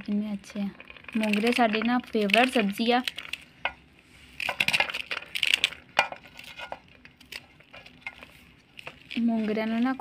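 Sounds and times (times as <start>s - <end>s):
pods rustling in metal bowl: 0.4s - 10.0s.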